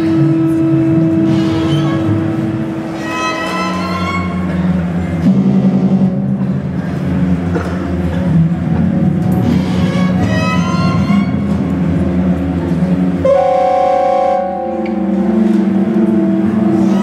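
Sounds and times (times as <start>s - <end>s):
violin long held notes: 0.0s - 7.0s, 9.3s - 17.0s
steady low drone: 0.0s - 17.0s.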